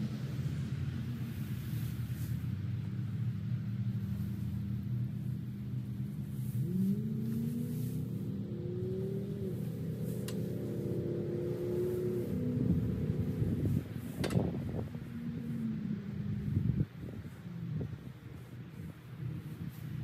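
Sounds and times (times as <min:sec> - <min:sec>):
motor engine running and revving: 0:00.0 - 0:20.0.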